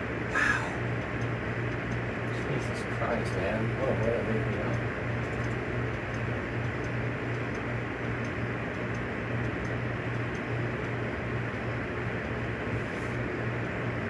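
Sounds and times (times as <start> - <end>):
low electrical hum: 0.0 - 14.0
faint ticking: 0.3 - 12.4.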